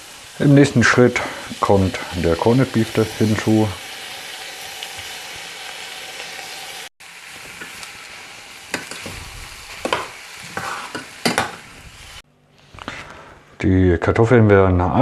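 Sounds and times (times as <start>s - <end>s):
food sizzling in a pot: 0.0s - 12.2s.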